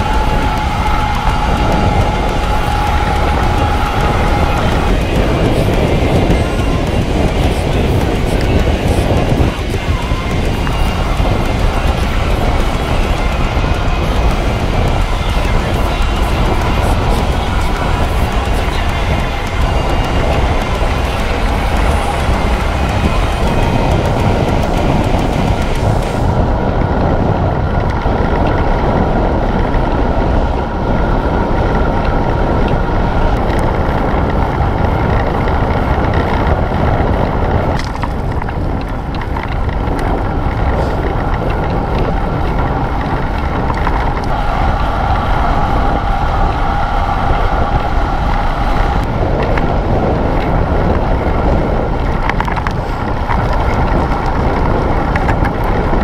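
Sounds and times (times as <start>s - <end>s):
bicycle tyres rumbling on asphalt: 0.0s - 56.0s
wind buffeting microphone: 0.0s - 56.0s.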